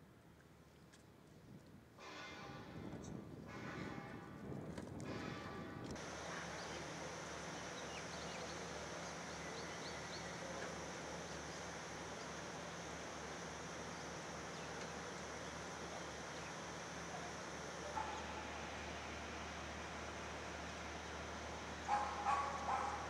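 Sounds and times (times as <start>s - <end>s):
low even hum: 2.2s - 23.0s.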